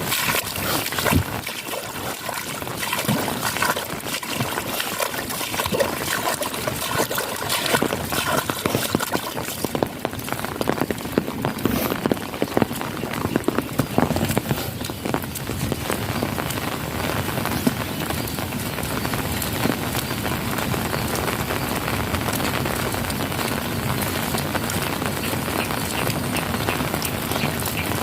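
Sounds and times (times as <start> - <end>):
drops splashing: 0.0 - 28.0
heavy rain falling: 0.0 - 28.0
runoff water pouring and trickling: 0.0 - 28.0.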